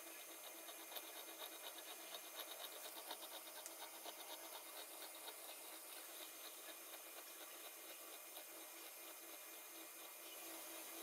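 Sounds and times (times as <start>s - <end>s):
constant high hiss: 0.0s - 11.0s.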